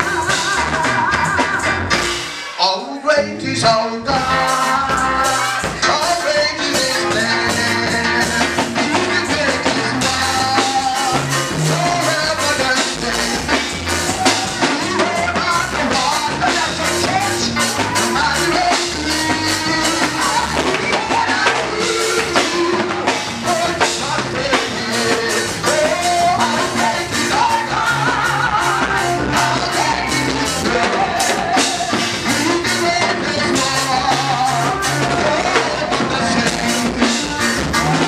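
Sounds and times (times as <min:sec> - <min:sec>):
drum kit fast beat: 0:00.0 - 0:02.9, 0:03.6 - 0:38.0
person singing: 0:00.0 - 0:38.0.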